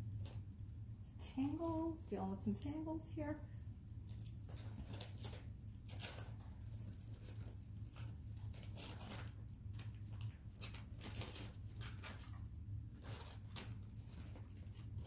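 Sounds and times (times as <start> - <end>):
jewelry clicking and rustling: 0.0 - 15.0
low steady hum: 0.0 - 15.0.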